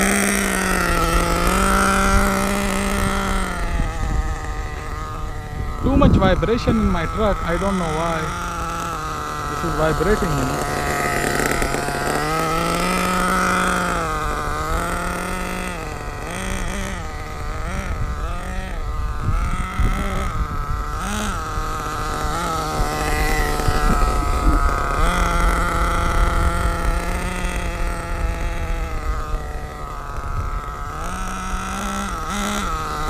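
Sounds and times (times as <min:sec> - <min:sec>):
model nitro engine revving: 0:00.0 - 0:33.0.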